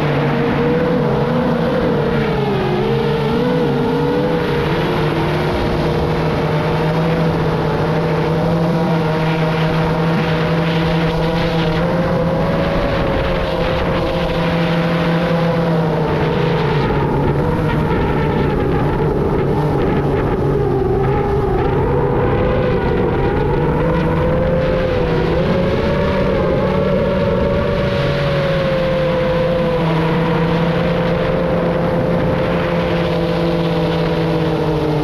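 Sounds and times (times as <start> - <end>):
drone motors whining: 0.0 - 35.0
wind noise on microphone: 0.0 - 35.0.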